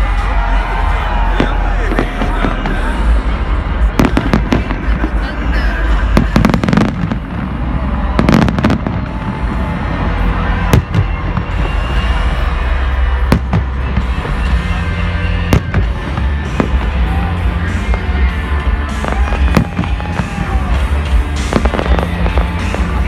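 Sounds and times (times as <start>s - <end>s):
low rumble: 0.0s - 23.0s
fireworks bangs: 0.1s - 23.0s.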